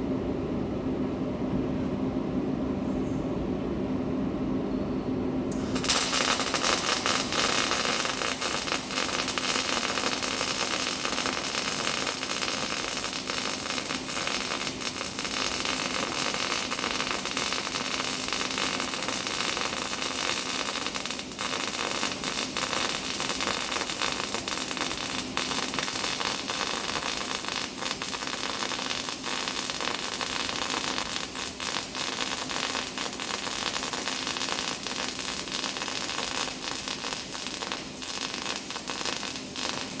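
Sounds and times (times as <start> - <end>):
welding arc crackling: 5.5 - 40.0.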